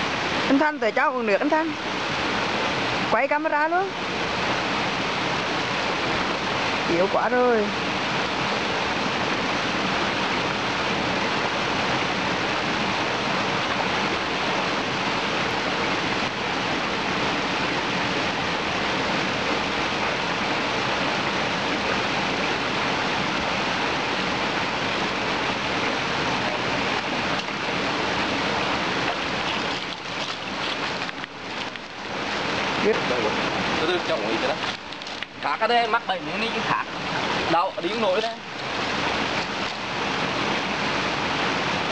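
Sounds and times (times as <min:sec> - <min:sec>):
forest stream rushing: 0:00.0 - 0:41.9.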